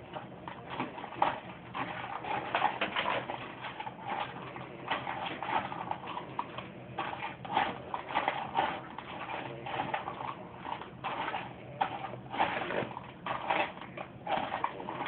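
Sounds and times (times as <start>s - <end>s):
kibble stirred in a bowl: 0.0s - 15.0s.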